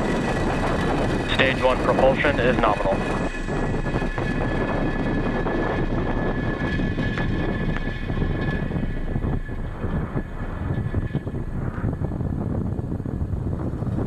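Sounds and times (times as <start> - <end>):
thin high whine: 0.0 - 12.3
rocket engines rumbling: 0.0 - 14.0.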